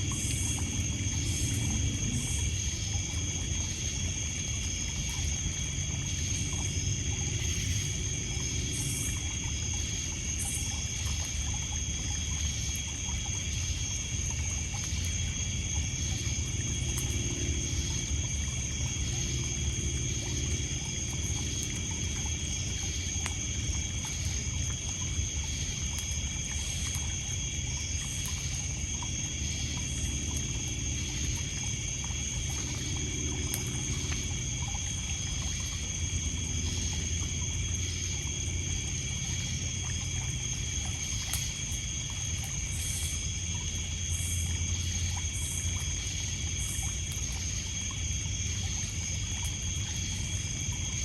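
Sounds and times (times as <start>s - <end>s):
crickets and insects trilling: 0.0s - 51.0s
faint campfire crackles: 0.0s - 51.0s.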